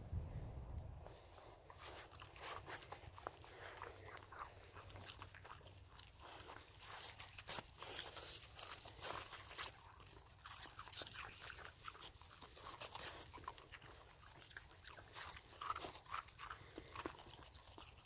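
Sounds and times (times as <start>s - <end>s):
dogs crunching snow: 1.0s - 18.0s.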